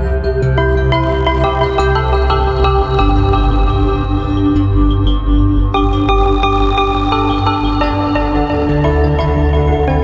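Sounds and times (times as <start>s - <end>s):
ambient music with held notes: 0.0s - 10.0s.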